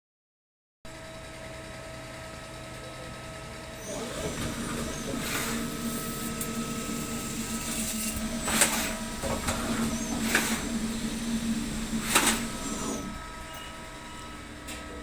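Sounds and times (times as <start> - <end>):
machine motor humming: 1.2 - 15.0.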